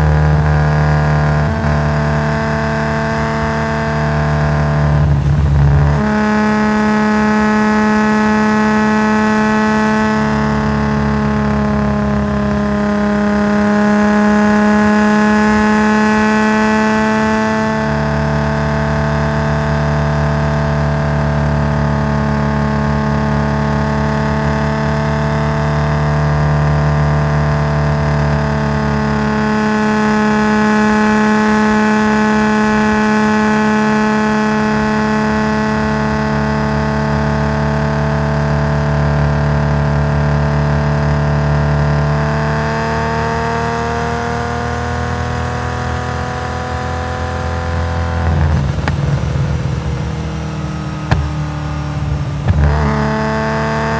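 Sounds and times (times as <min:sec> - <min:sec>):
car engine running loud: 0:00.0 - 0:53.9.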